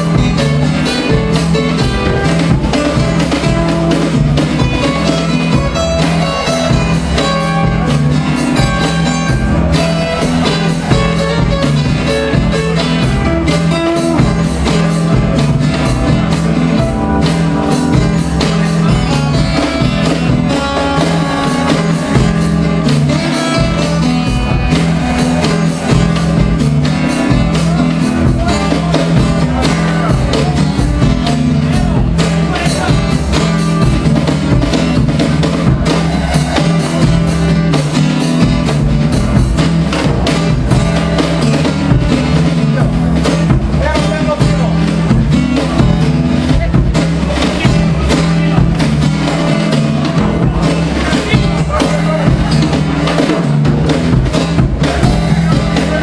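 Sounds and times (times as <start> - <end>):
acoustic guitar: 0.0 - 56.0
drums keeping steady beat: 0.0 - 56.0.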